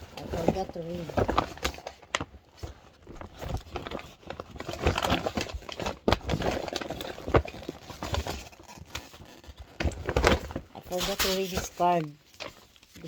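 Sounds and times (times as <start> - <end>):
paper card and envelope rustling: 0.0 - 13.0.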